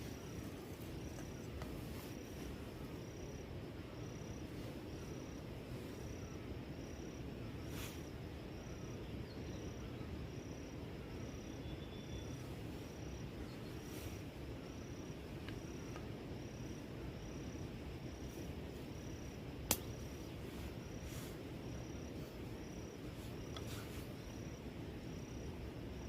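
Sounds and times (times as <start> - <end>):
insect chirping: 0.0 - 26.0
low background noise: 0.0 - 26.0.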